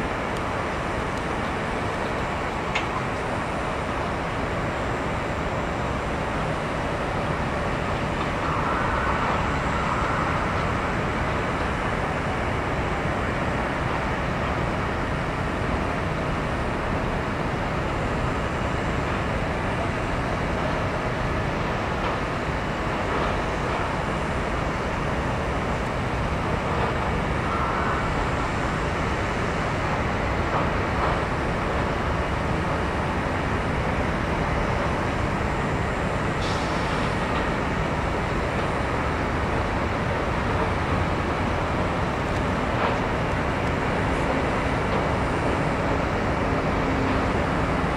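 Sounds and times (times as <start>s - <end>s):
diesel engines and heavy machinery: 0.0s - 47.9s.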